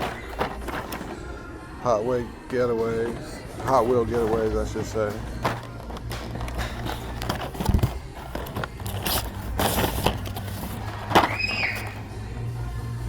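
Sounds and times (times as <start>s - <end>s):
packaging being handled: 0.0s - 1.4s, 2.4s - 12.0s.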